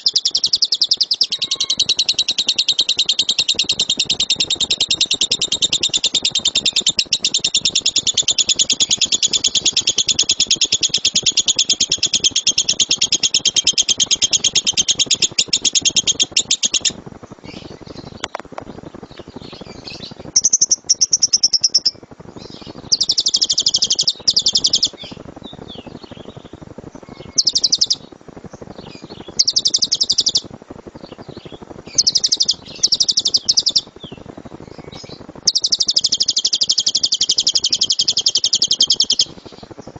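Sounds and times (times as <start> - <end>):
lovebird chattering: 0.0 - 18.4, 19.4 - 25.2, 27.0 - 28.1, 29.2 - 30.5, 31.9 - 34.2, 34.8 - 39.6.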